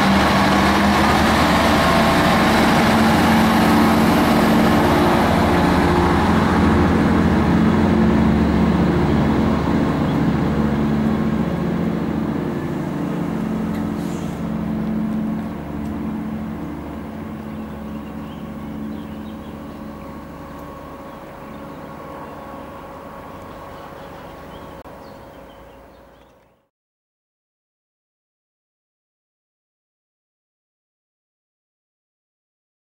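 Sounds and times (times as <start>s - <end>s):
train diesel engine hum: 0.0s - 26.7s.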